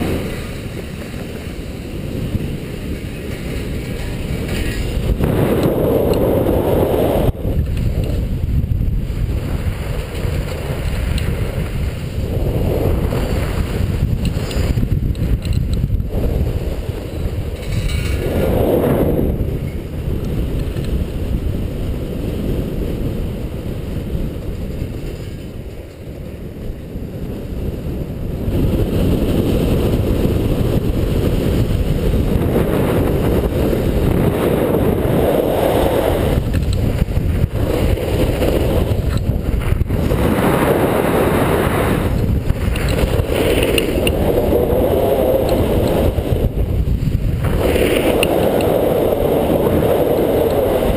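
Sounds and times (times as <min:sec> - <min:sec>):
snowboard edge carving snow: 0:00.0 - 0:50.9
wind rumbling over microphone: 0:00.0 - 0:50.9.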